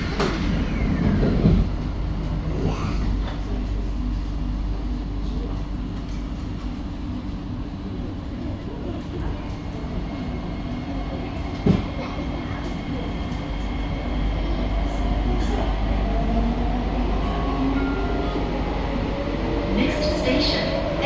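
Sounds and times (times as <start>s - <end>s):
train interior rumble: 0.0s - 21.0s.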